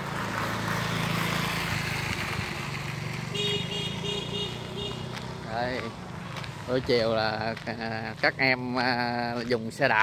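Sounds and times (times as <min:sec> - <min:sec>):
motorbike passing: 0:00.0 - 0:10.0.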